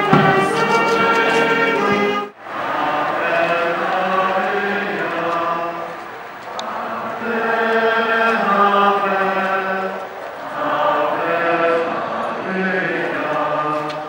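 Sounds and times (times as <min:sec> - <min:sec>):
crowd singing a hymn: 0:00.0 - 0:14.0.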